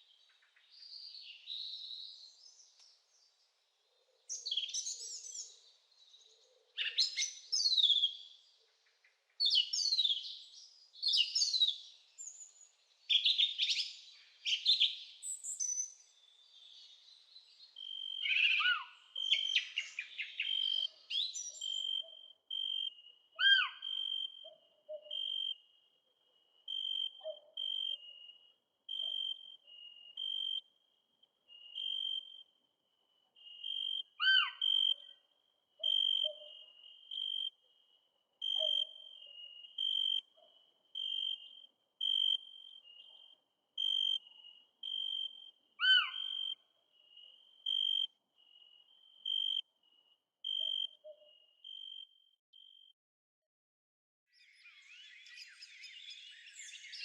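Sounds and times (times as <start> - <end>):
birds chirping song: 0.0 - 30.6, 31.4 - 32.3, 33.0 - 35.2, 35.8 - 41.7, 42.6 - 51.8, 54.3 - 57.0.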